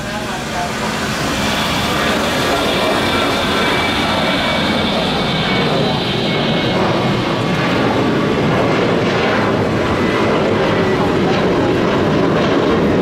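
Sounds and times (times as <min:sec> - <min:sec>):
jet engines with high fan whine: 0:00.0 - 0:13.0.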